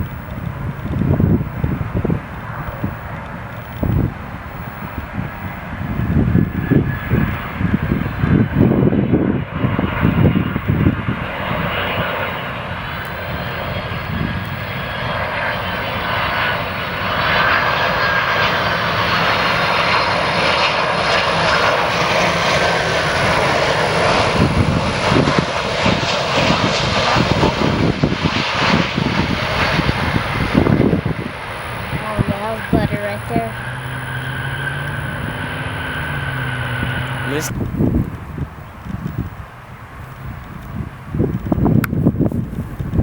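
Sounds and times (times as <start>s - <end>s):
jet airliner engines passing: 0.0s - 43.0s.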